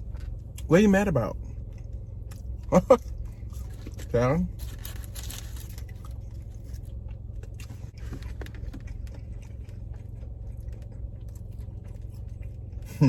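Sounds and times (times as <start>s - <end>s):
low hum inside car: 0.0s - 13.0s
chewing and lip-smacking: 1.4s - 13.0s.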